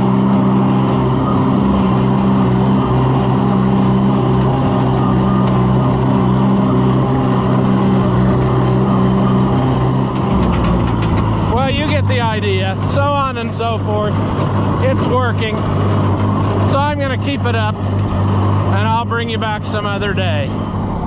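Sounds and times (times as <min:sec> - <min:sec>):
rotary shredder humming: 0:00.0 - 0:21.0
tractor engine running steadily: 0:00.0 - 0:21.0.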